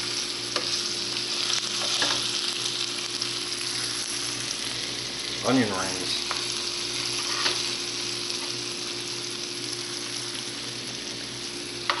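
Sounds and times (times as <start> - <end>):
onion rings frying in hot oil: 0.0 - 12.0.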